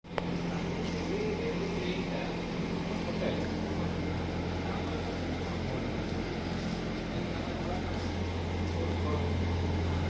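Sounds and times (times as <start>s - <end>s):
machinery hum: 0.1s - 10.0s.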